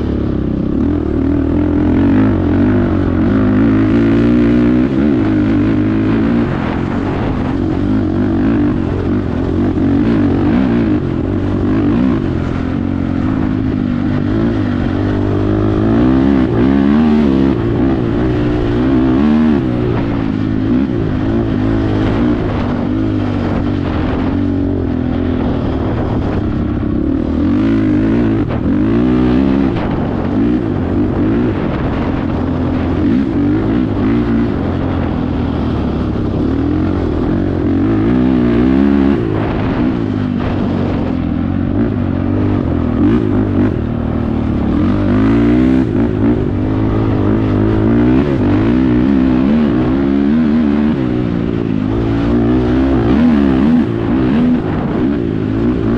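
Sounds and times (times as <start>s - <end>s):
quad bike engine revving: 0.0s - 55.9s.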